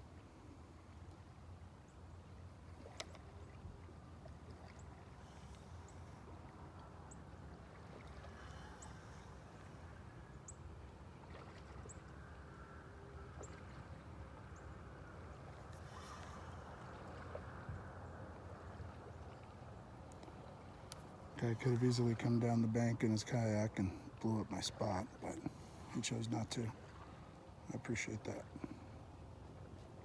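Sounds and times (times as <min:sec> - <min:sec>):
low wash of water: 0:00.0 - 0:30.0.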